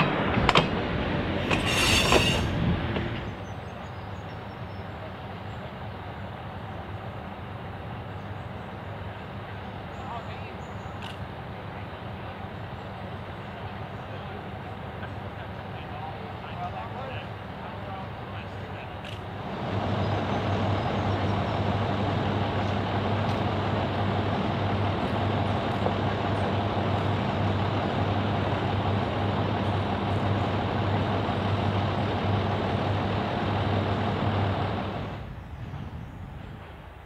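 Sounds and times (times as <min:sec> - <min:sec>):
diesel railcar engine idling: 0:00.0 - 0:37.0.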